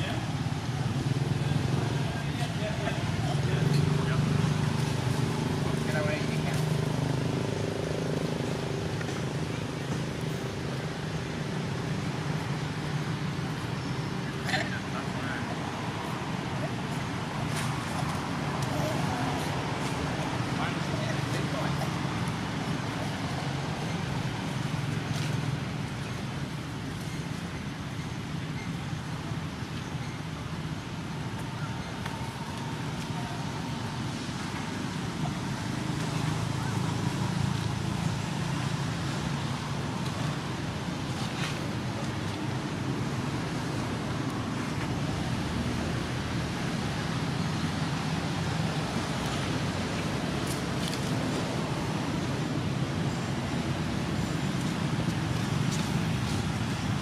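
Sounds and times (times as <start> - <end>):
traffic hum: 0.0 - 57.0.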